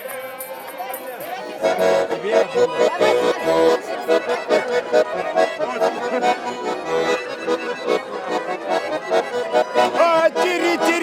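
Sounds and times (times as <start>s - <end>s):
button accordion playing chords: 0.1s - 11.0s.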